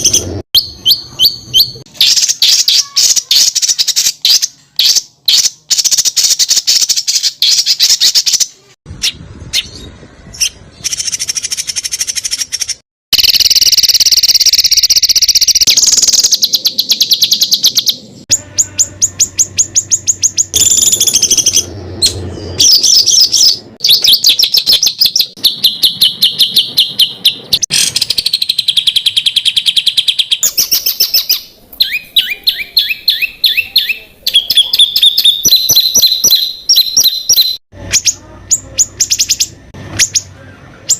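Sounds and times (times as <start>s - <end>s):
songbirds singing rapid trills: 0.0s - 40.9s.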